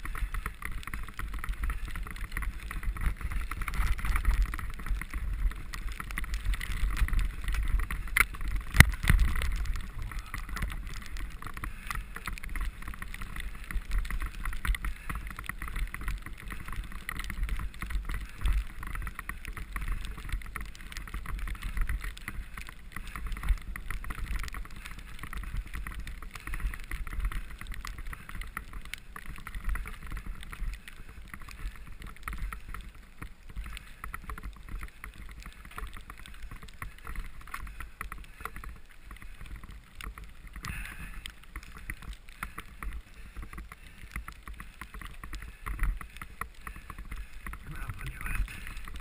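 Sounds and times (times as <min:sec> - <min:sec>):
bicycle rattling over bumps: 0:00.0 - 0:49.0.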